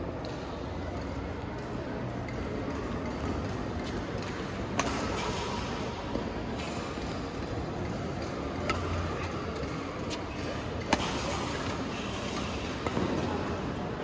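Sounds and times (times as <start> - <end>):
hall background noise: 0.0 - 14.0
rackets hitting shuttlecock: 0.1 - 13.9.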